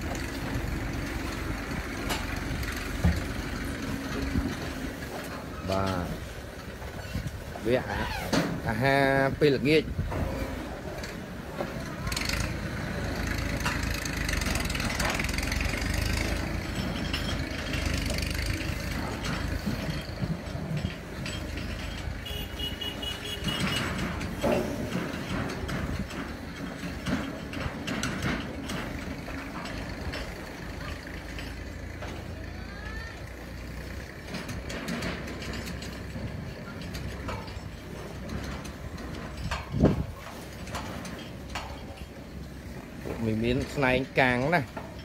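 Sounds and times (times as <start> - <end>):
clanks and knocks: 0.0 - 45.0
low engine-like rumble: 0.0 - 45.0.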